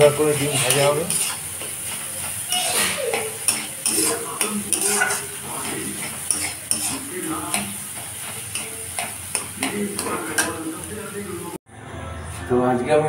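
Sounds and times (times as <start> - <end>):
metal spatula scraping a wok: 0.0 - 10.8
oil sizzling: 0.0 - 11.6.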